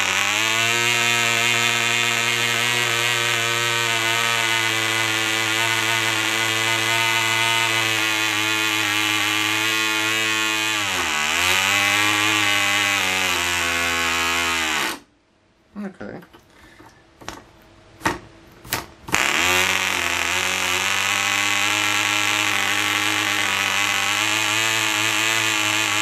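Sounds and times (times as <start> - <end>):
model engine buzzing: 0.0 - 15.0, 19.1 - 26.0.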